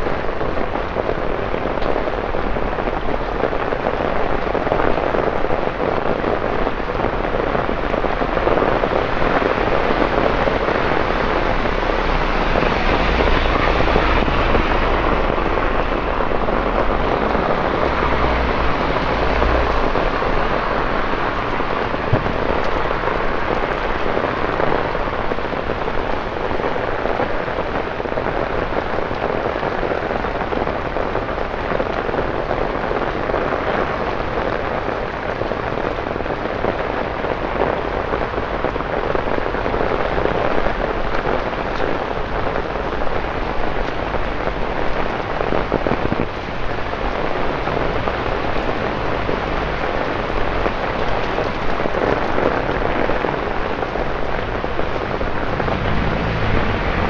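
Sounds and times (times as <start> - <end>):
torrential rain on streets: 0.0 - 57.0.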